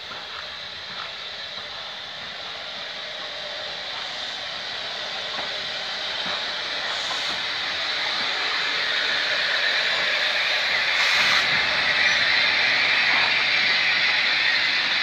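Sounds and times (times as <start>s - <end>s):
steam hissing: 0.0s - 15.0s
train wheels rolling on rails: 0.0s - 15.0s.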